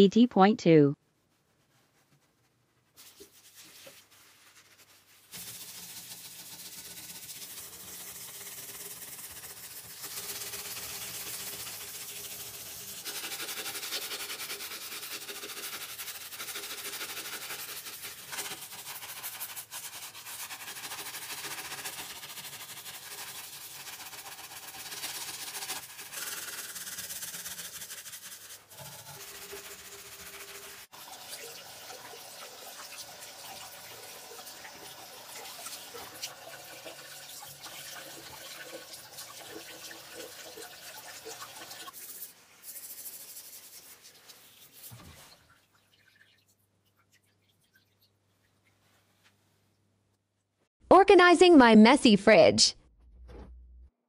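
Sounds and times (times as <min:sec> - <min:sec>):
brush scrubbing ceramic basin: 0:01.3 - 0:49.2.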